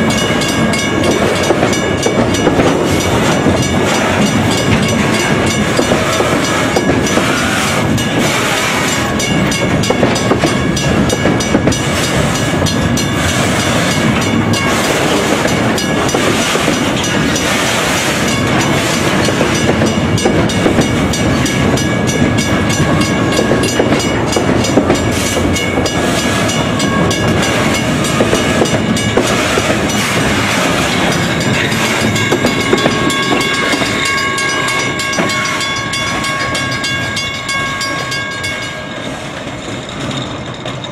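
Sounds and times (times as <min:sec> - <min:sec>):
clatter over rail joints: 0:00.0 - 0:40.9
train wheels rumbling on track: 0:00.0 - 0:40.9.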